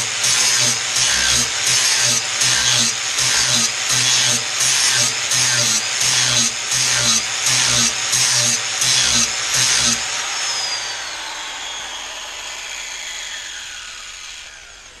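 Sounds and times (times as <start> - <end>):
angle grinder grinding steel: 0.0 - 15.0
grinder motor winding down: 0.0 - 15.0.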